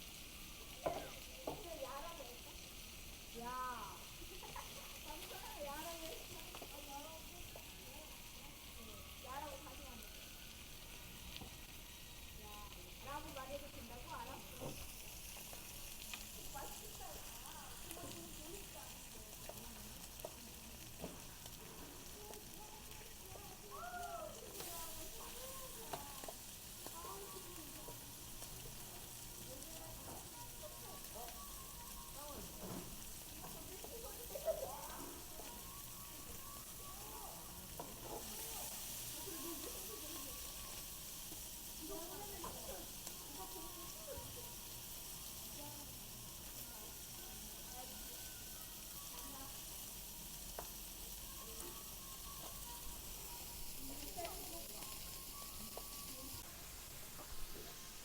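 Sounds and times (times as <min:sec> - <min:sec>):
faint voices: 0:00.0 - 0:58.0
meat sizzling on a griddle: 0:00.0 - 0:58.0.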